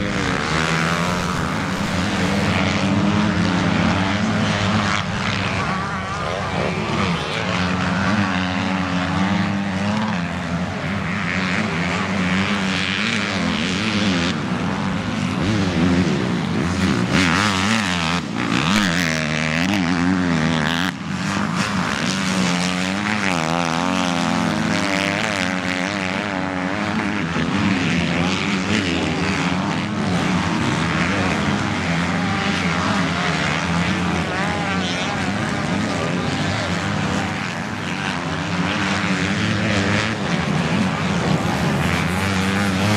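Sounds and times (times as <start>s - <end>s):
motocross bikes revving: 0.0s - 42.9s.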